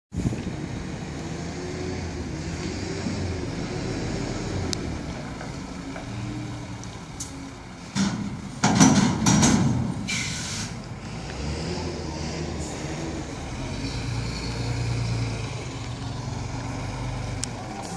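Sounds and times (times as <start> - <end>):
heavy vehicle engine running: 0.2 - 17.9.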